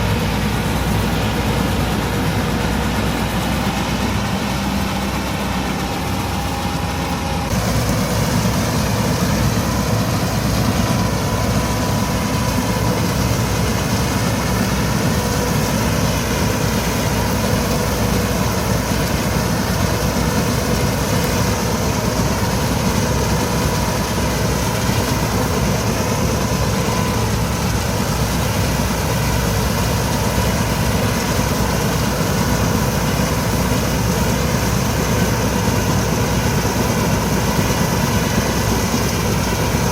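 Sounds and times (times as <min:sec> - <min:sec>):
straw chopper whine: 0:00.0 - 0:39.9
tractor diesel engine running: 0:00.0 - 0:39.9.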